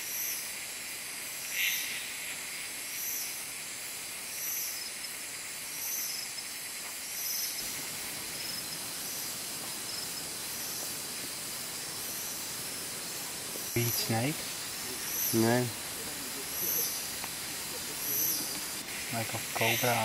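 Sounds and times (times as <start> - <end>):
constant hiss: 0.0 - 20.0
high-pitched insect trill: 0.0 - 20.0
low insect buzzing call: 0.0 - 20.0.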